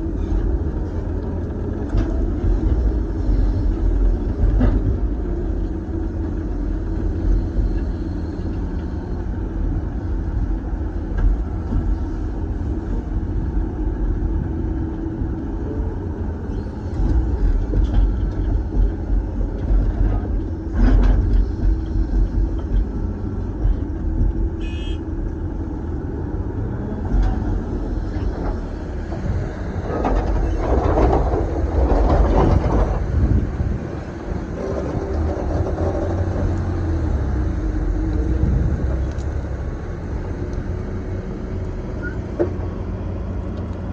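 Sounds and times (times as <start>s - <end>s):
excavator engine and hydraulics: 0.0s - 43.9s.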